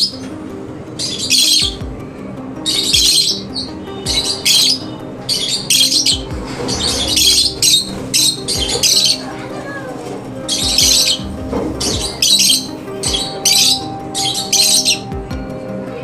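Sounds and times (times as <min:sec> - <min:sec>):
lovebirds screeching: 0:01.0 - 0:01.8, 0:02.6 - 0:15.2.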